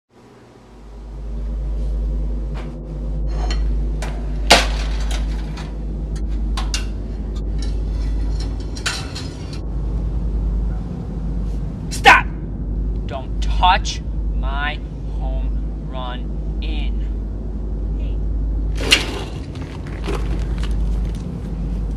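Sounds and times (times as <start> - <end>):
low rumbling drone: 0.1 - 21.9.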